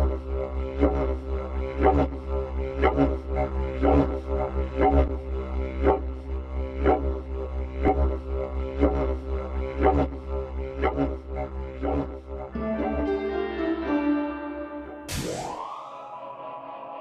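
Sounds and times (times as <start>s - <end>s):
low droning music with pulse: 0.0s - 17.0s.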